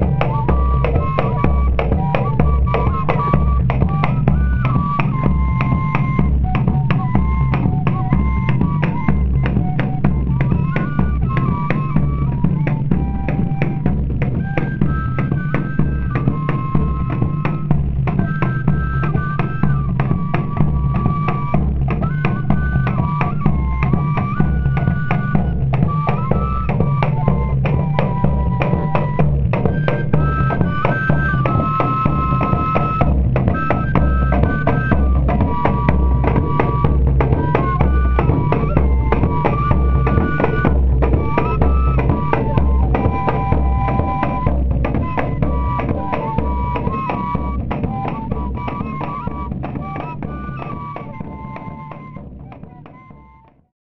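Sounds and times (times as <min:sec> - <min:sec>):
bass drum and snare beat: 0:00.0 - 0:53.6.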